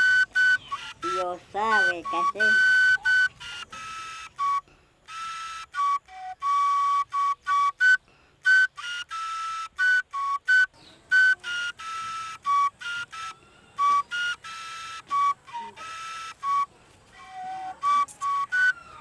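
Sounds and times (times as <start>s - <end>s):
flute melody: 0.0s - 19.0s.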